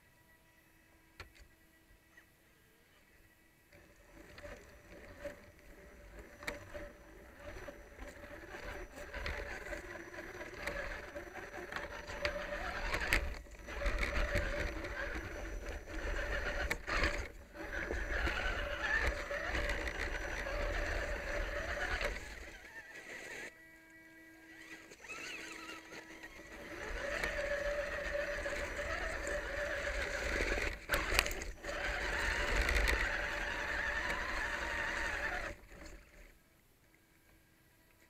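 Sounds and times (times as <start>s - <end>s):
electric motor whining: 0.2s - 38.0s.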